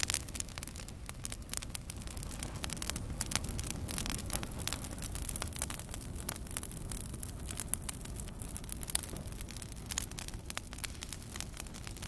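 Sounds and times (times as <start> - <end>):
burning wood crackling and popping: 0.0 - 12.0
low steady rumble: 0.0 - 12.0.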